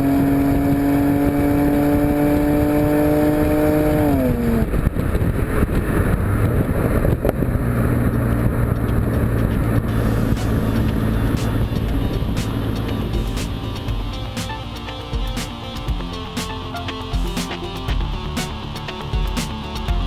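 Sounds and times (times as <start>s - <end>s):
car engine revving and droning: 0.0s - 20.0s
road noise: 0.0s - 20.0s.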